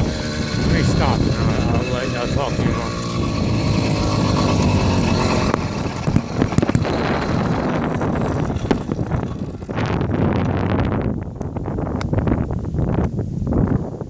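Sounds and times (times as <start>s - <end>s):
two-stroke engine running: 0.0s - 13.1s
wind buffeting microphone: 0.0s - 14.0s.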